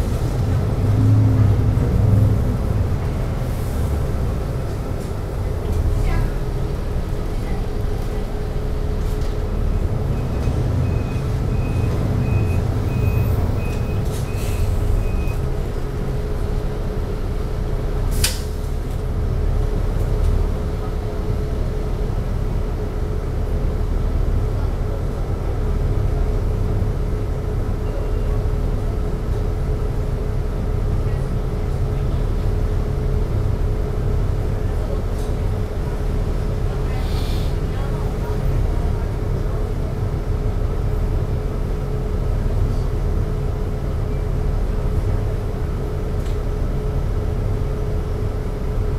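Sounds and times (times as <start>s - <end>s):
bus engine low rumble: 0.0s - 48.9s.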